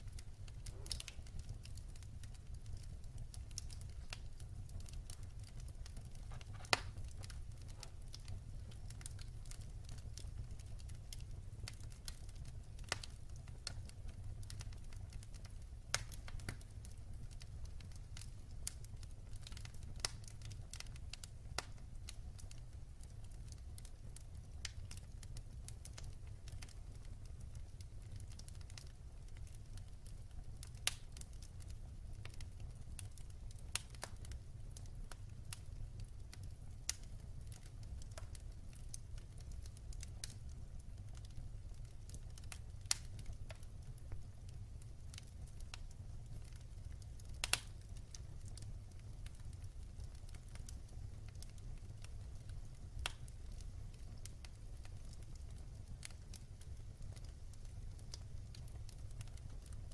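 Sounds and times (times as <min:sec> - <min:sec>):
burning logs crackling and popping: 0:00.0 - 0:59.9
rumble of flames: 0:00.0 - 0:59.9.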